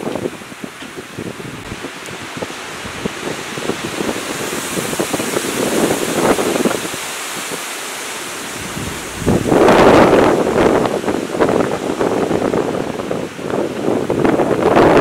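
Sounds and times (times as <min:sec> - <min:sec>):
strong wind gusting through trees: 0:00.0 - 0:15.0
wind buffeting microphone: 0:00.0 - 0:15.0.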